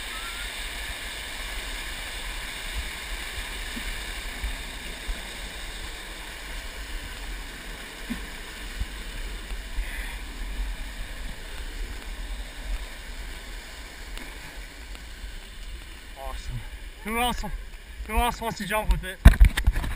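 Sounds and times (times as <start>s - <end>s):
water rushing down waterfall: 0.0s - 19.9s.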